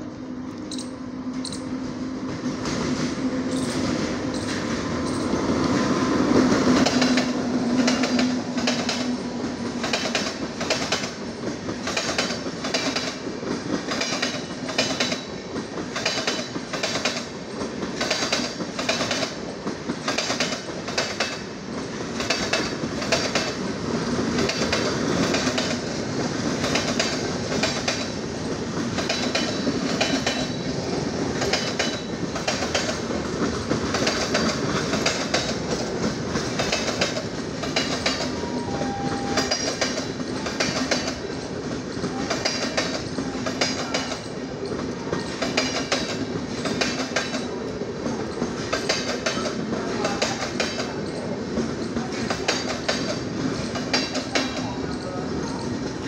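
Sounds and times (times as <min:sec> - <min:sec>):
train rumble: 0:00.0 - 0:56.0
train wheels clicking over rail joints: 0:00.5 - 0:56.0.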